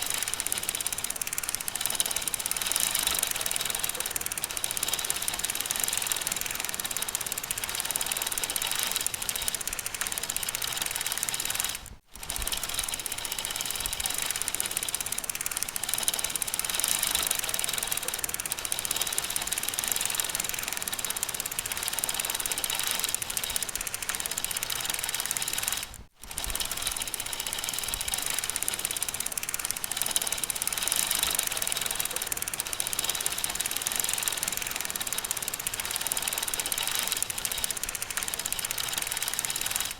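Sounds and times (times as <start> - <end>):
bicycle chain clicking and whirring: 0.0 - 39.9.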